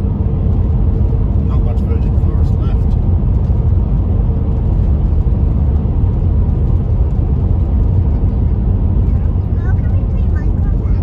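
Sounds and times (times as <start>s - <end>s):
car cabin road and engine drone: 0.0s - 11.0s.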